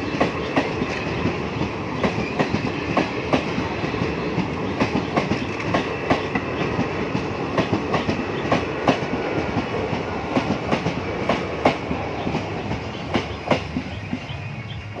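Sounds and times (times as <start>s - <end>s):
train rolling on rails: 0.0s - 15.0s.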